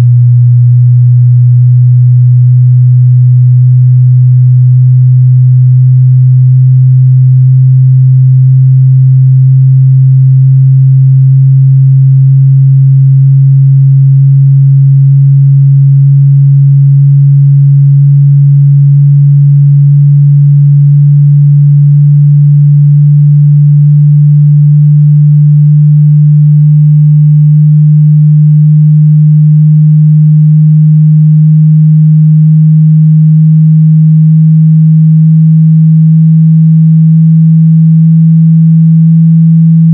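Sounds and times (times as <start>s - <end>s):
low sine tone sweeping upward: 0.0s - 39.9s.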